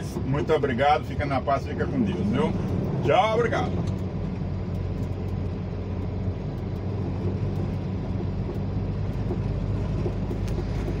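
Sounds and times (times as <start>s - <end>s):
diesel engine humming: 0.0s - 11.0s
road noise: 0.0s - 11.0s.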